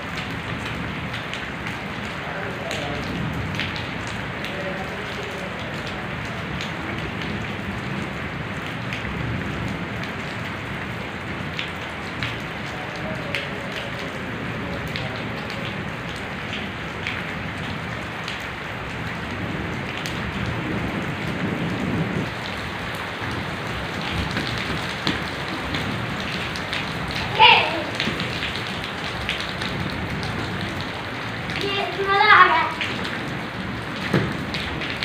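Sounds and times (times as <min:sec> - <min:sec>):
heavy rain on brick paving: 0:00.0 - 0:35.0
sharp ticks of raindrops: 0:00.0 - 0:35.0.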